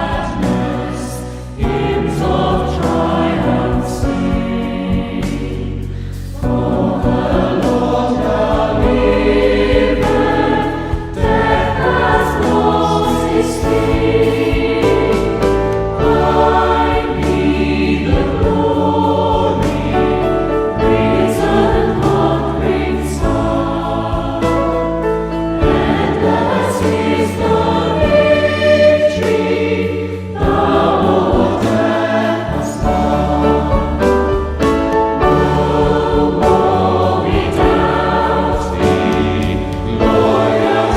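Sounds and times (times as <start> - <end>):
choir singing a hymn: 0.0 - 40.9
instrumental accompaniment: 0.0 - 40.9.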